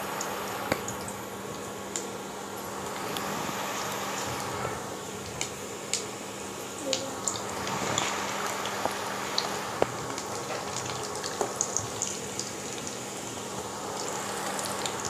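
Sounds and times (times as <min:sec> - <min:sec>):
cutlets frying in hot oil: 0:00.0 - 0:15.0.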